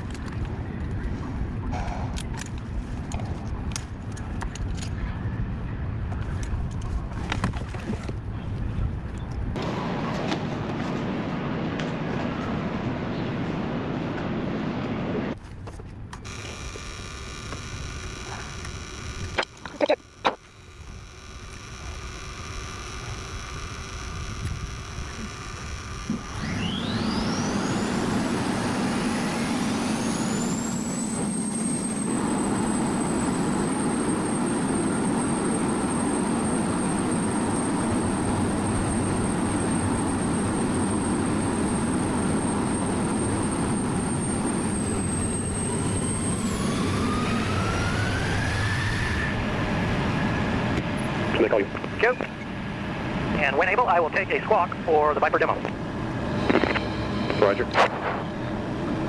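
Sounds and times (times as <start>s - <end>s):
jet engine rumble: 0.0s - 59.0s
jet engine whine rising: 9.6s - 15.4s, 16.2s - 59.0s.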